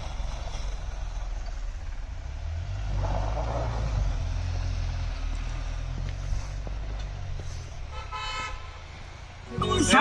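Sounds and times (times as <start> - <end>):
suv engine running: 0.0 - 10.0.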